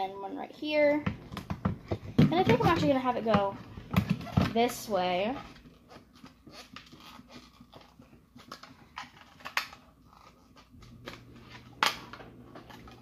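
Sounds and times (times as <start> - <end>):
plastic tubes clicking and creaking: 1.1 - 13.0.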